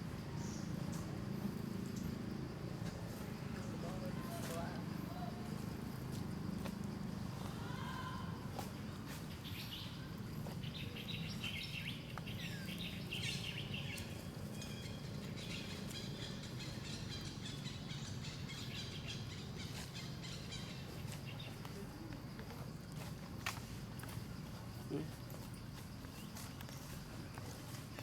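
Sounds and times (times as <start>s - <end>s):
small birds chirping: 0.0s - 23.1s.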